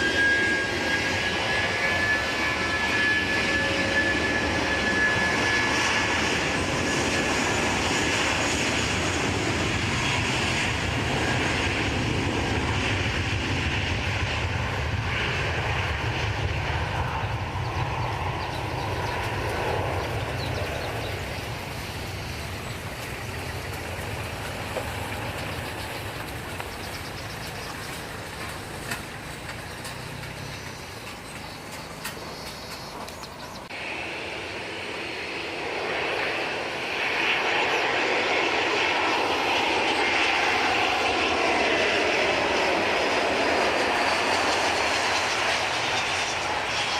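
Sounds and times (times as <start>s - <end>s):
airliner engines running: 0.0s - 46.9s.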